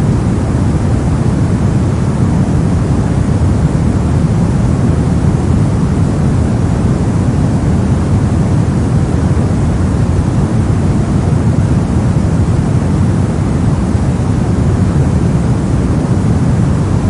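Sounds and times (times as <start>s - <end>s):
steady soft noise rush: 0.0s - 17.0s.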